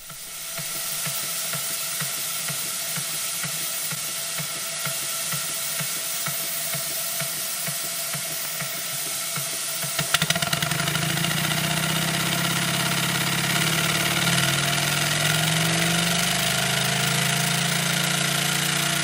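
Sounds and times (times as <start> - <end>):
steam engine exhaust beats: 0.0 - 19.0.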